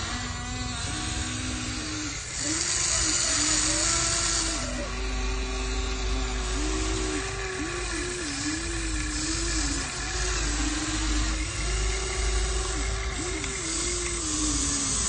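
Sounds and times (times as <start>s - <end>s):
toy electric motors whining: 0.0s - 15.0s.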